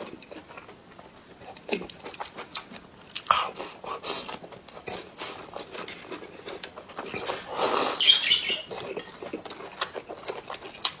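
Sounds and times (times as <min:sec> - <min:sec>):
wet chewing mouth sounds: 0:00.0 - 0:11.0.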